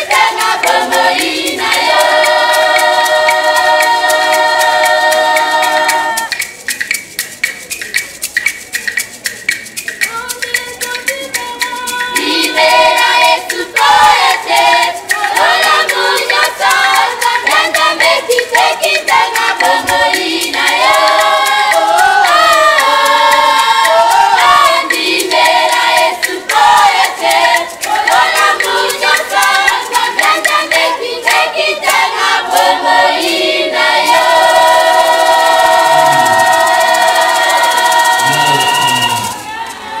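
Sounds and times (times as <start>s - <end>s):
women's choir singing: 0.0s - 6.4s, 10.2s - 40.0s
fast percussion beat: 0.0s - 39.8s.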